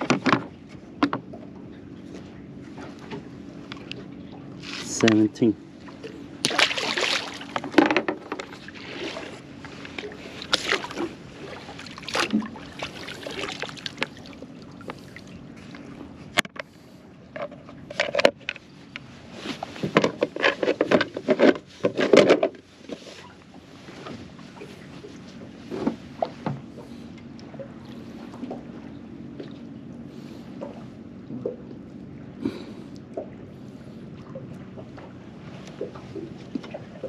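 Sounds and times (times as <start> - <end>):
water lapping against boat hull: 0.0 - 37.0.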